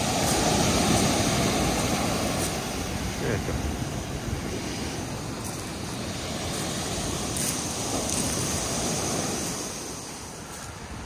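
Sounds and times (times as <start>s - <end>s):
waves breaking on pebble beach: 0.0s - 11.0s.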